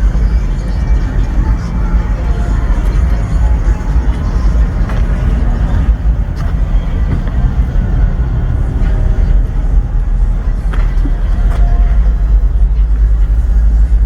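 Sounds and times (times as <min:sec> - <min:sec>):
car engines rumbling: 0:00.0 - 0:14.0.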